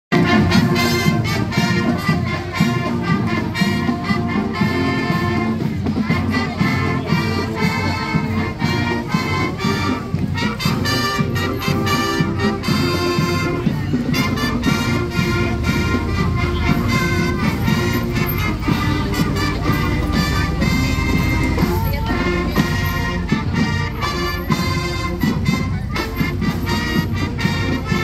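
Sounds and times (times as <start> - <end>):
marching band playing: 0.1 - 28.0.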